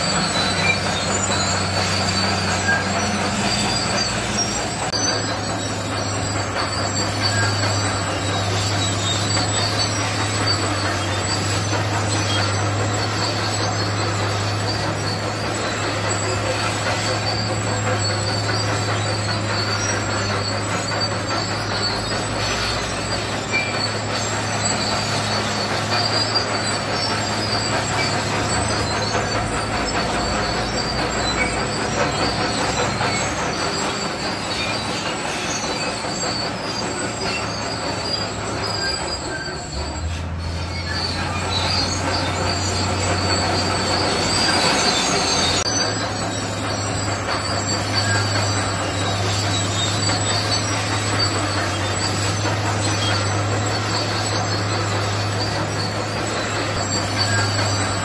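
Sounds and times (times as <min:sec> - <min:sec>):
bulldozer diesel engine under load: 0:00.0 - 0:58.0
steel tracks squealing and clanking: 0:00.0 - 0:58.0.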